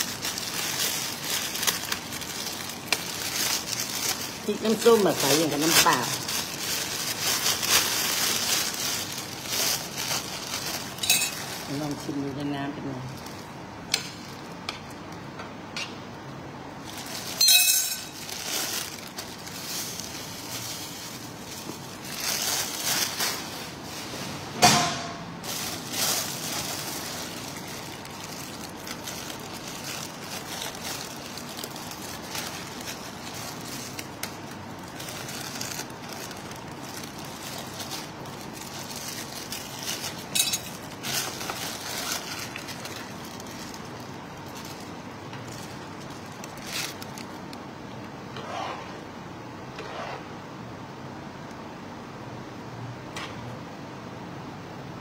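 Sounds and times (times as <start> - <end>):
steady background noise: 0.0 - 55.0.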